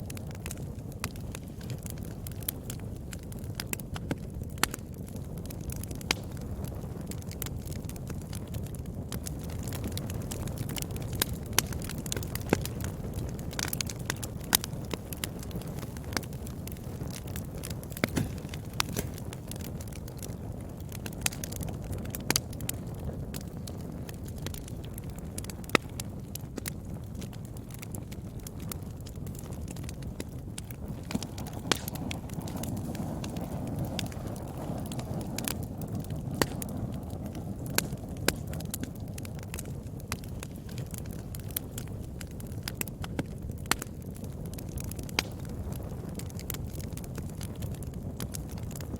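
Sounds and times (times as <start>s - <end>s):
fire crackles and pops: 0.0s - 48.9s
fire rumbling: 0.0s - 48.9s.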